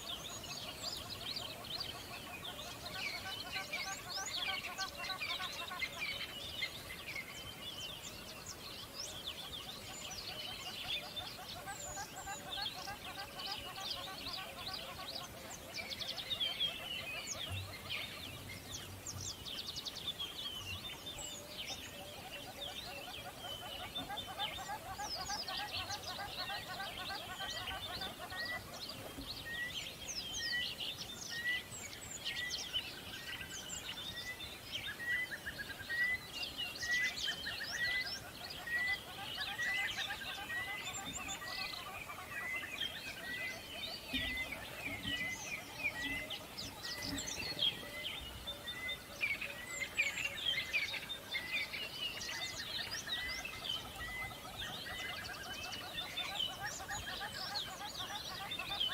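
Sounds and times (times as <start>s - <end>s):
birds chirping and twittering: 0.0s - 58.9s.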